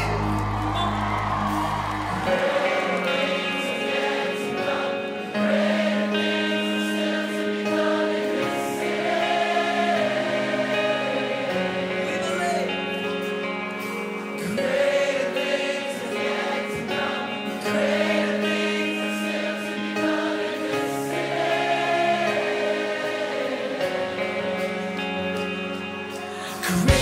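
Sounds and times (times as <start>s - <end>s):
choir singing long notes: 0.0s - 27.0s
sustained instrumental backing: 0.0s - 27.0s.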